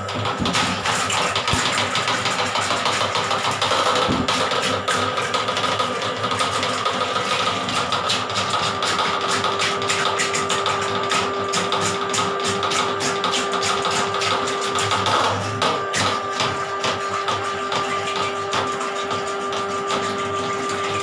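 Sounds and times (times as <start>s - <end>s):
drain-cleaning machine running: 0.0s - 21.0s.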